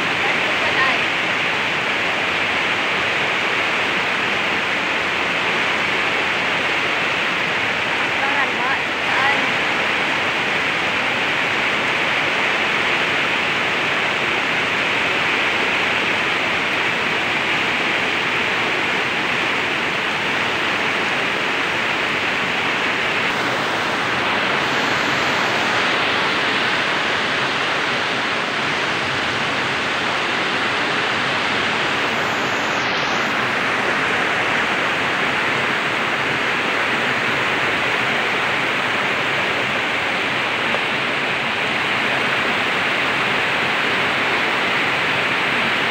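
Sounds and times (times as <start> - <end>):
floodwater rushing: 0.0 - 45.9
heavy rain downpour: 0.0 - 45.9.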